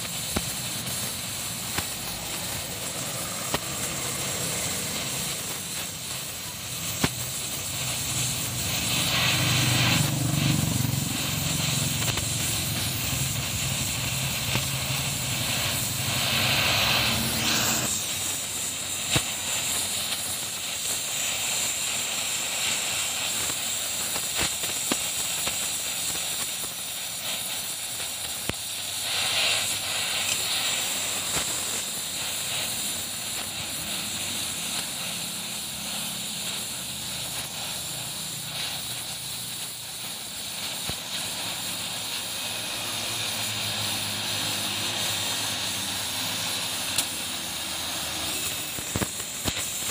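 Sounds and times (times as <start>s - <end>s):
welding torch flame hissing: 0.0s - 49.9s.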